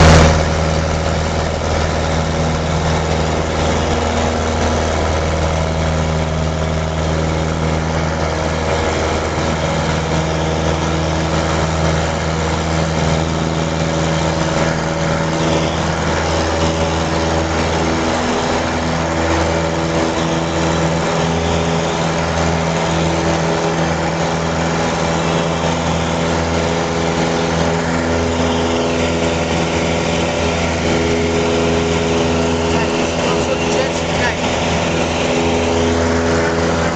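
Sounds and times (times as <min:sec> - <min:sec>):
propeller plane engine drone: 0:00.0 - 0:36.9.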